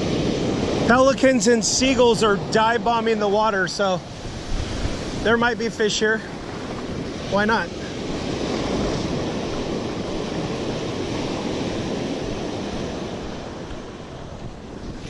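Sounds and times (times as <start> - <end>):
ocean surf on beach: 0.0 - 15.0
wind on microphone: 0.0 - 15.0.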